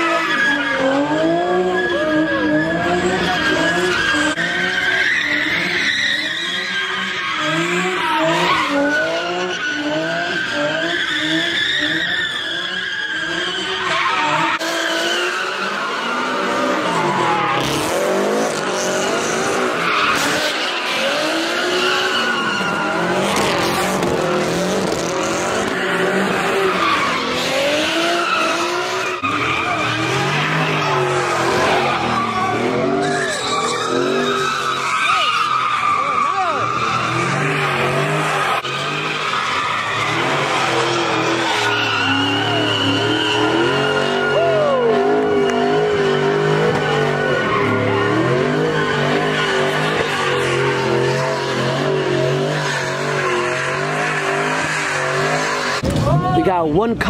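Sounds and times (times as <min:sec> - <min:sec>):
car engines revving: 0:00.0 - 0:57.0
tyres squealing on asphalt: 0:00.0 - 0:57.0.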